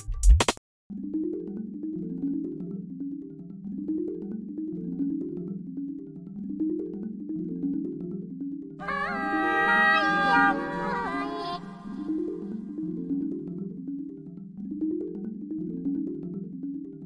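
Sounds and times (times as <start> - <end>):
mallet percussion melody: 0.9 - 17.0.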